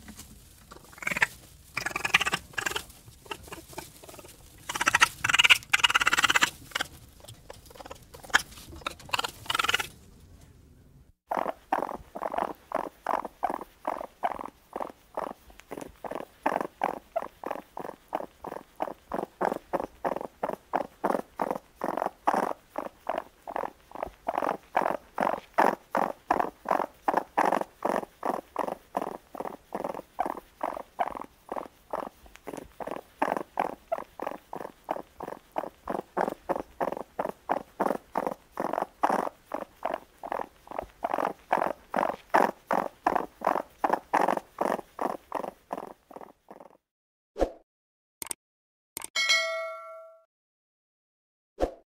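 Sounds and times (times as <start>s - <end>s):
raccoon calling in pulses: 0.7s - 9.9s, 11.3s - 46.8s.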